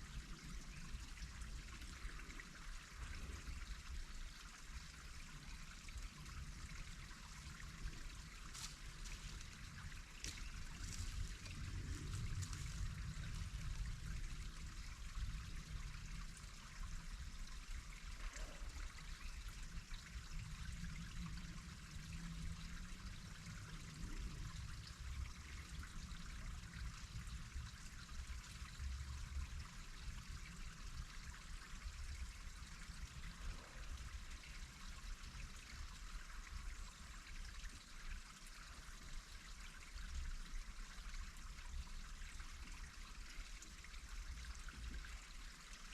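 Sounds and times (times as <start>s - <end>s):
running water: 0.0s - 45.9s.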